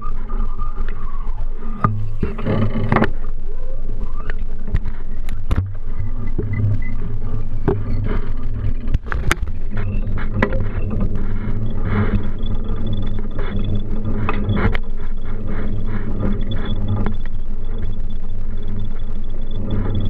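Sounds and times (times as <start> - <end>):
bicycle rumbling over street: 0.0 - 20.0
bicycle rattling over bumps: 1.8 - 20.0.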